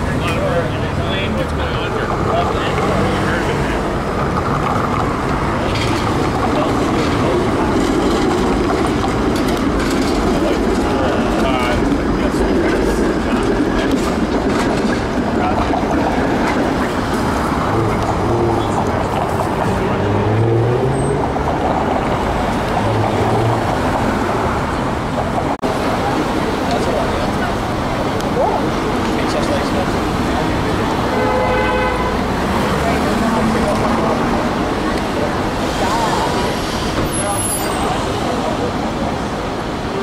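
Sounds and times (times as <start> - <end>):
streetcar rolling rumble: 0.0 - 40.0.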